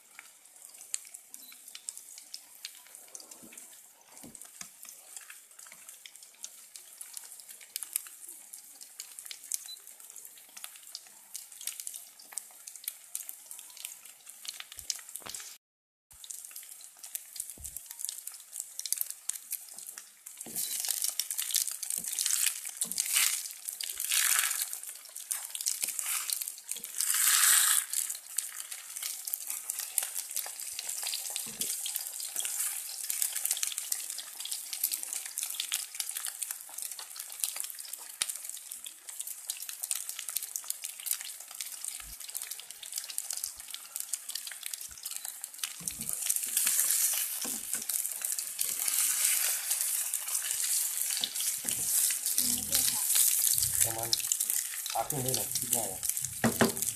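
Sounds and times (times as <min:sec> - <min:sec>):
omelette sizzling in frying pan: 0:00.0 - 0:56.9.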